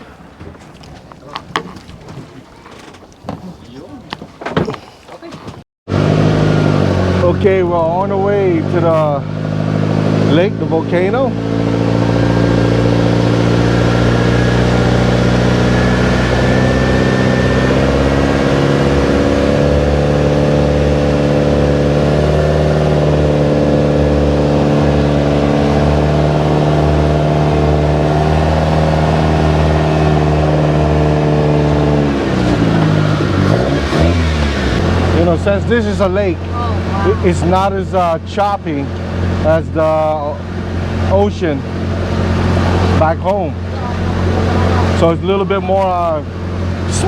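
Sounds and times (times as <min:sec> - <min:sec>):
boat engine droning: 0:05.9 - 0:47.0.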